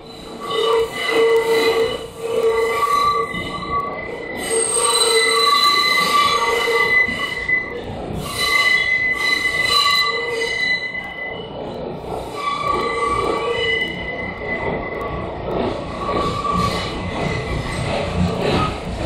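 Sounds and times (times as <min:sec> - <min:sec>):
train running noise: 0:00.0 - 0:19.0
train wheels squealing on track: 0:00.0 - 0:19.0.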